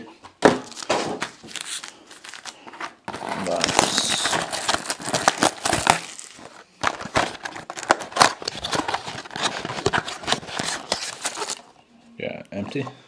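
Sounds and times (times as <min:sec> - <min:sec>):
cardboard packaging rustling: 0:00.4 - 0:11.7.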